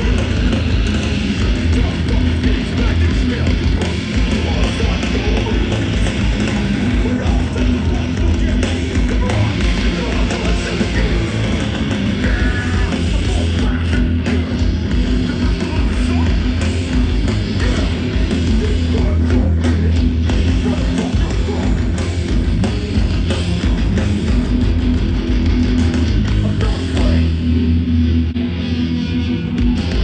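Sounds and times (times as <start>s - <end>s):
hardcore band playing: 0.0s - 30.0s.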